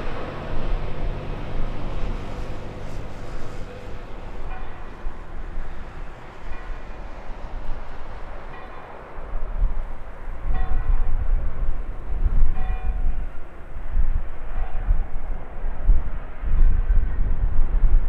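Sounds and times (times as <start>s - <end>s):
jet engines rumbling: 0.0s - 16.5s.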